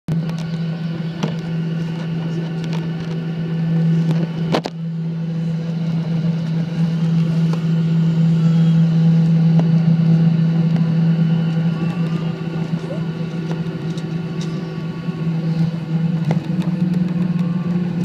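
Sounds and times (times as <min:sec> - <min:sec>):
airliner engines droning: 0:00.1 - 0:18.0.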